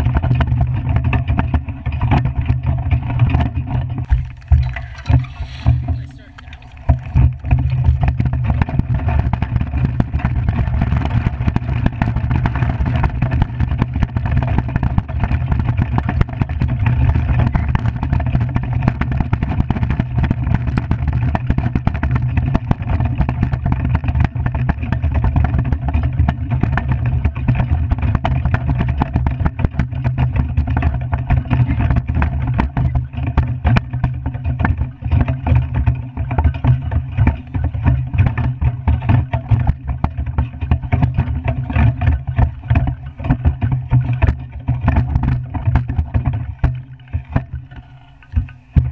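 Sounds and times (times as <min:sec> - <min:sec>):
iceboat runners rumbling on ice: 0:00.0 - 0:48.9.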